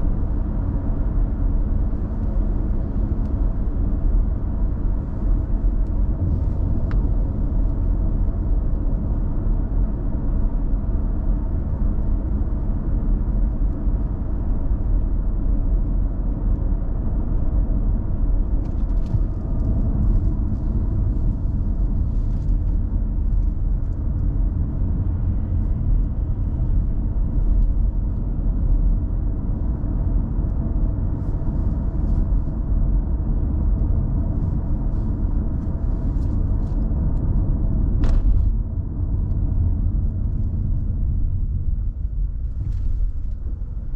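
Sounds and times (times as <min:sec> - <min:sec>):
car engine and tyre rumble inside: 0:00.0 - 0:43.9.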